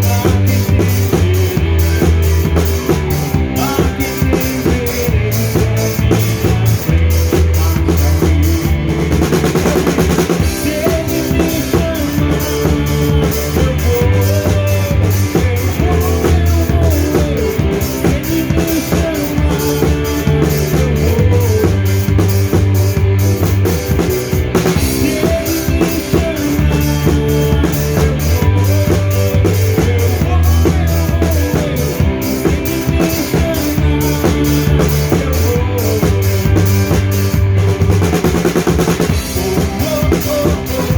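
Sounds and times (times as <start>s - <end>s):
drum kit beat: 0.0s - 40.9s
live band playing: 0.0s - 40.9s.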